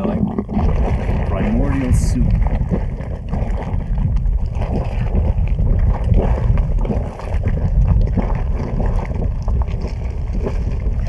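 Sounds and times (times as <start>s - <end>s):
geyser water bubbling and splashing: 0.0s - 11.0s
wind buffeting microphone: 0.0s - 11.0s.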